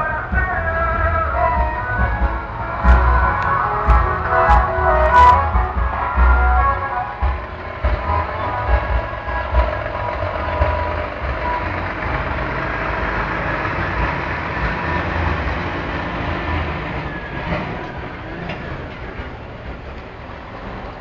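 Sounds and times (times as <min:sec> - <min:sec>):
heavy truck engine rumbling: 0:00.0 - 0:21.0.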